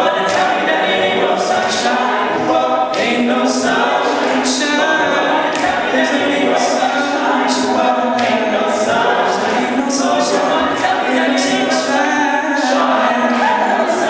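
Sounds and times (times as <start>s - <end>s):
male a cappella group singing: 0.0s - 14.0s.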